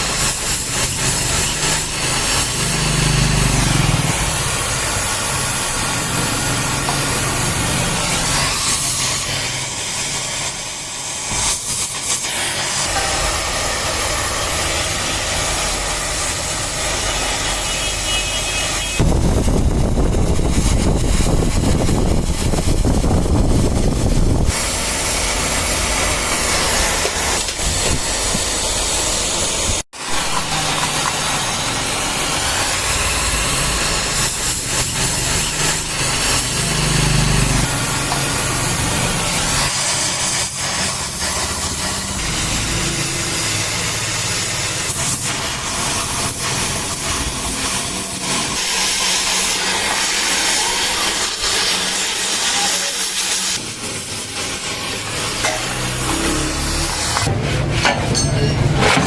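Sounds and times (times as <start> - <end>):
metalworking machinery running: 0.0 - 59.0.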